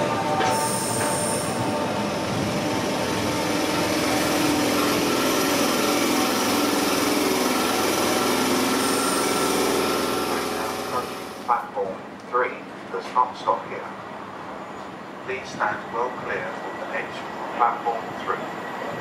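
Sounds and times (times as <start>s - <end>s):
electric train rumbling on rails: 0.0s - 19.0s.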